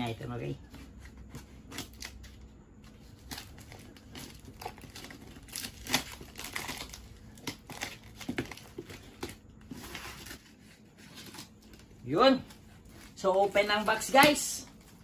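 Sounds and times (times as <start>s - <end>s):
tape and card crinkling: 1.3s - 15.0s.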